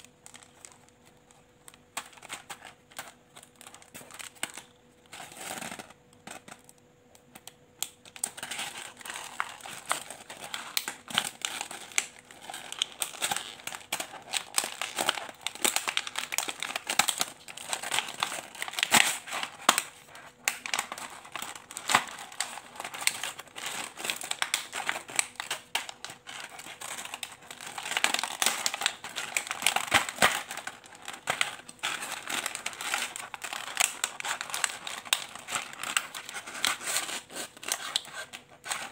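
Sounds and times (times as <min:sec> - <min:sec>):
plastic wrapping crinkling: 0:00.0 - 0:38.9.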